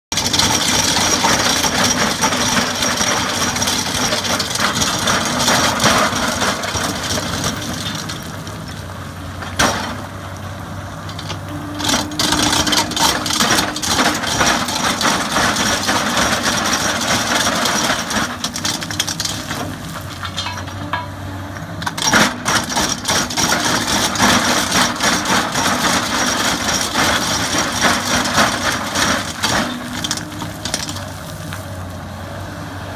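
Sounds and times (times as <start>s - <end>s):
rock grinder crackling and rattling: 0.1s - 10.2s, 11.0s - 21.1s, 21.8s - 31.8s
excavator diesel engine drone: 0.2s - 32.9s.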